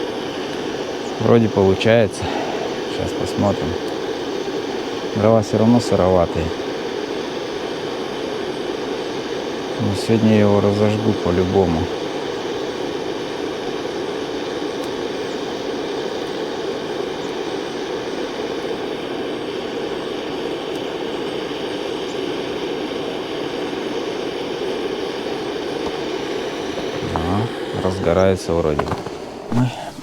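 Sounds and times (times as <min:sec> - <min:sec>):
gas torch burner roaring: 0:00.0 - 0:30.0.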